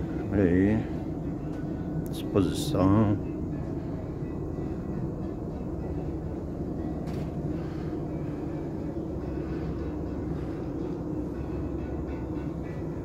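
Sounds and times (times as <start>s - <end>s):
ship engines rumbling: 0.0s - 13.0s.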